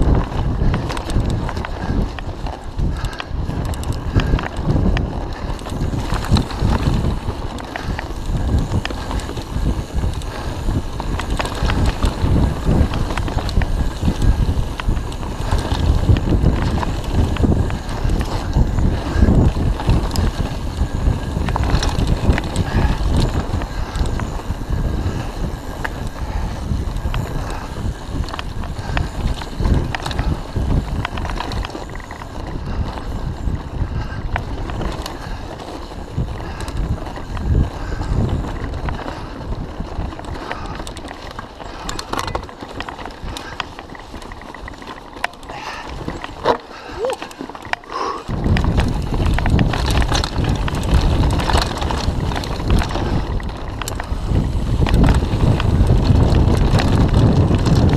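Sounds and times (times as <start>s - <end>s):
bike rattling and knocking: 0.0s - 57.9s
tyres rumbling over dirt: 0.0s - 57.9s
wind buffeting microphone: 0.0s - 57.9s.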